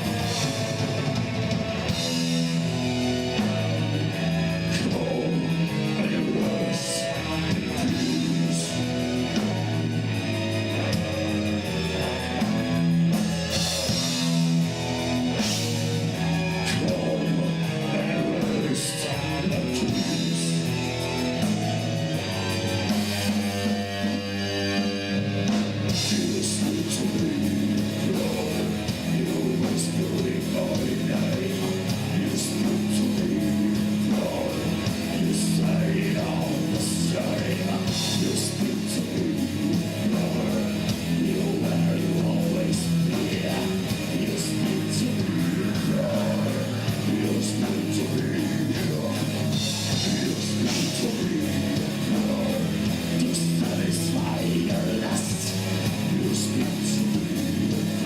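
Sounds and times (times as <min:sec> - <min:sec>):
heavy rock music: 0:00.0 - 0:58.0.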